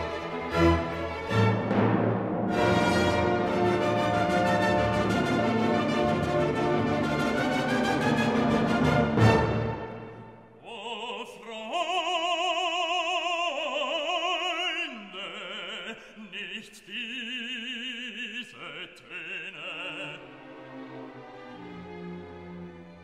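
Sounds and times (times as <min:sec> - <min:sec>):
operatic classical music: 0:00.0 - 0:23.0.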